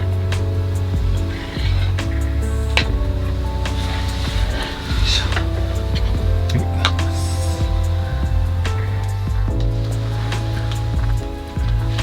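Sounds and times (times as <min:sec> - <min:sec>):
mellow pop music: 0:00.0 - 0:12.0.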